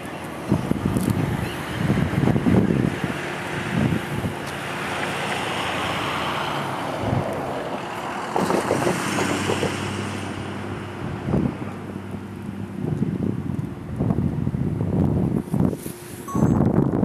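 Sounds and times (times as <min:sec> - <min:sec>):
wind thumping on microphone: 0:00.5 - 0:04.4, 0:06.9 - 0:17.0.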